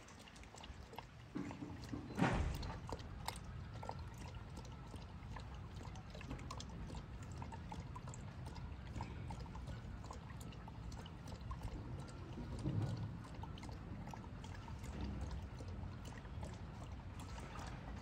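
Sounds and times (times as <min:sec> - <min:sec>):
dog lapping water: 0:00.0 - 0:18.0.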